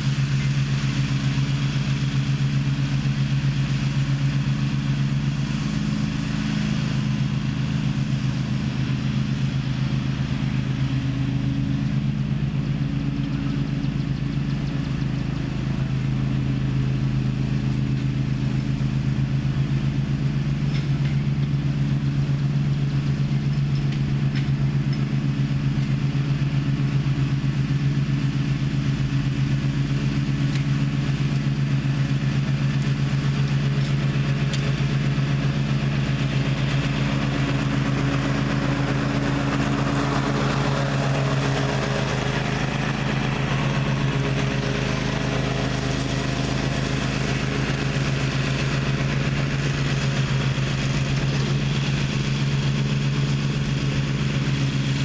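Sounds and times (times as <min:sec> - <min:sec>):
riding mower engine running: 0:00.0 - 0:55.0.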